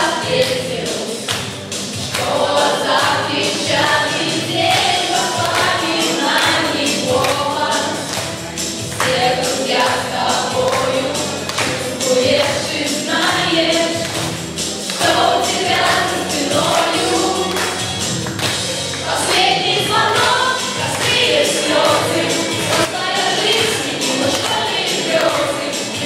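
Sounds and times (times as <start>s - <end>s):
music with percussive beat: 0.0s - 26.0s
teenagers singing as a choir: 0.0s - 26.0s.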